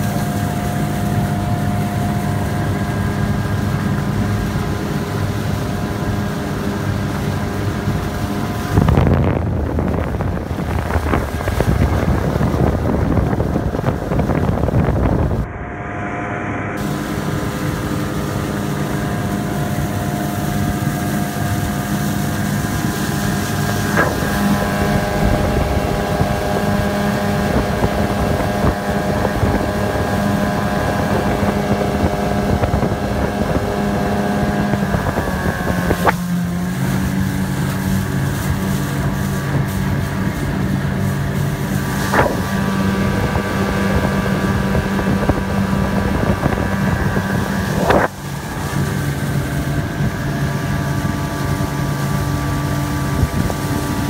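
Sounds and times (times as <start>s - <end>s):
wind buffeting microphone: 0.0s - 15.5s, 16.8s - 54.0s
outboard motor running: 0.0s - 54.0s.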